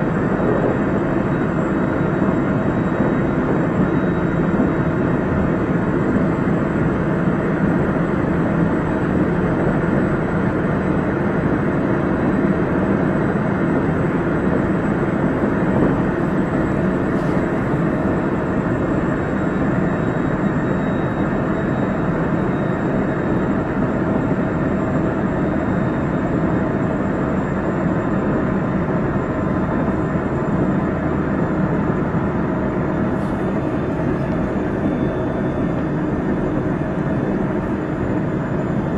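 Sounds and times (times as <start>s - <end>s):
faint high whine: 0.0s - 7.0s, 14.5s - 38.9s
train wheels rumbling on rail: 0.0s - 38.9s.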